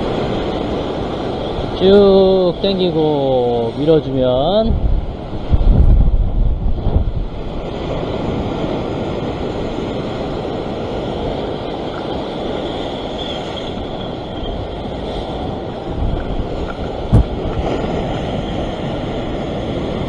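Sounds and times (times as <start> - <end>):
surf breaking over rocks: 0.0 - 20.0
wind buffeting microphone: 0.0 - 20.0.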